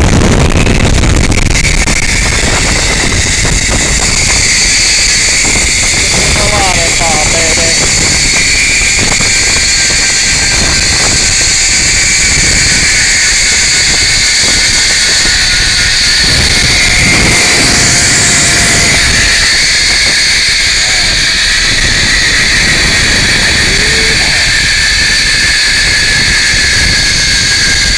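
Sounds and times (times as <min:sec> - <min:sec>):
wind buffeting microphone: 0:00.0 - 0:27.9
zipline pulleys whirring on cable: 0:00.0 - 0:27.9.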